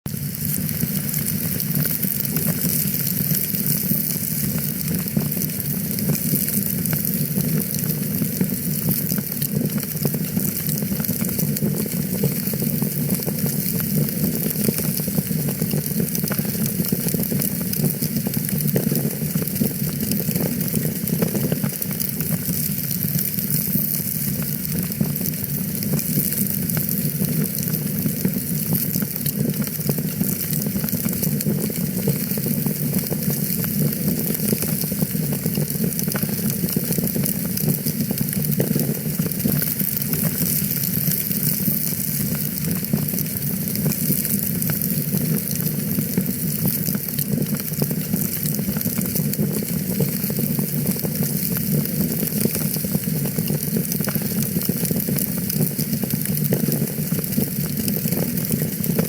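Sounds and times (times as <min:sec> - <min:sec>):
fire crackling: 0:00.1 - 0:59.0.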